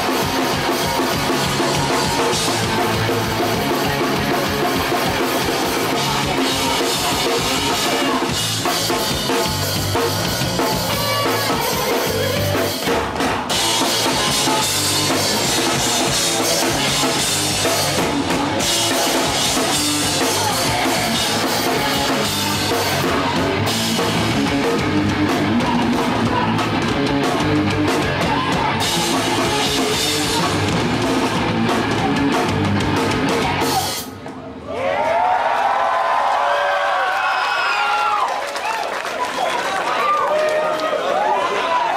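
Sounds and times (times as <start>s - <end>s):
pounding bass drum: 0.0s - 34.0s
punk band playing loud: 0.0s - 34.6s.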